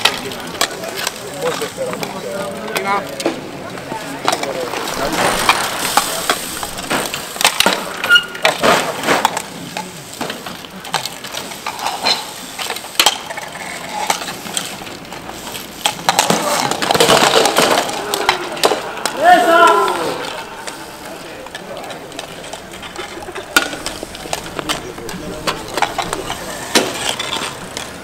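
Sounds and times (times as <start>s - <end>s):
bicycles jostling: 0.0s - 28.0s.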